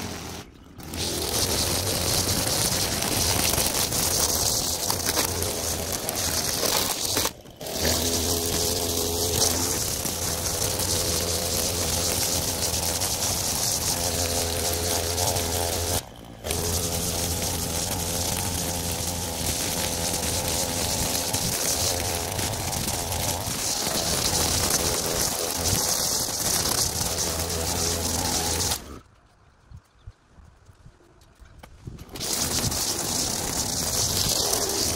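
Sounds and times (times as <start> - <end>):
string trimmer running: 0.0 - 29.0, 32.0 - 34.9.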